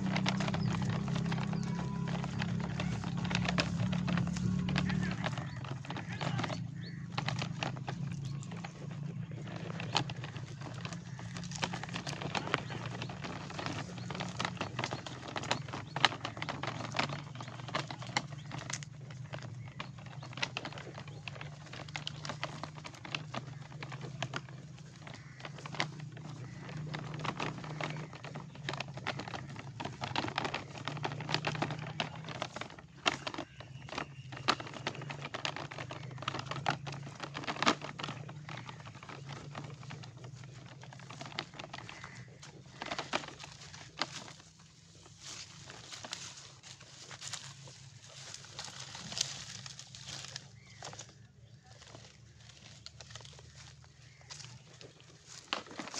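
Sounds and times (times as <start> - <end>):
toy truck wheels rattling: 0.0 - 55.9.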